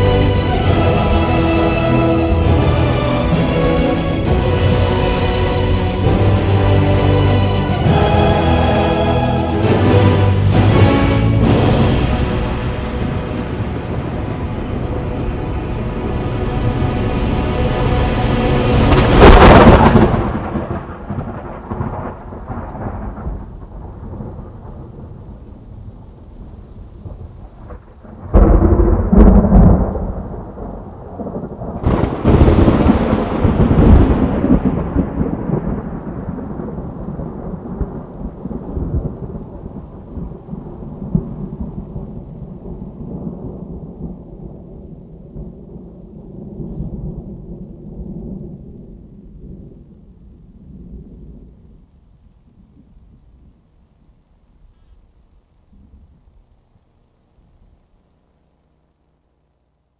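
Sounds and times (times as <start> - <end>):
thunder rumbling: 0.0 - 58.4.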